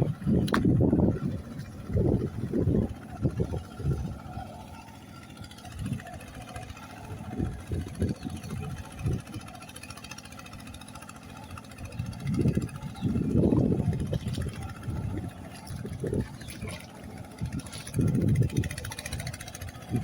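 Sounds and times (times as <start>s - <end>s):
wind buffeting microphone: 0.0s - 10.8s, 11.4s - 20.0s
diesel tractor engine running: 0.0s - 20.0s.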